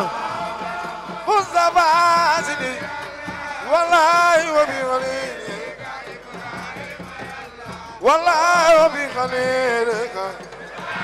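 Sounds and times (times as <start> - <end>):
man singing a devotional chant: 0.0 - 11.0.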